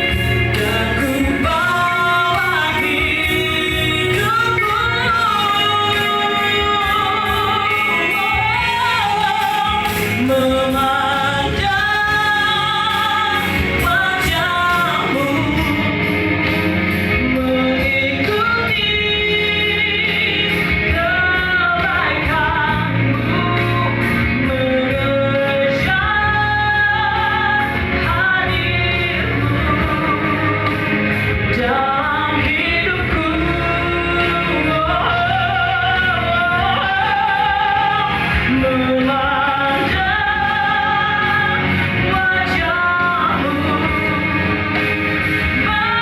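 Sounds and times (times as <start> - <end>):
band accompaniment: 0.0 - 46.0
woman singing: 0.0 - 46.0.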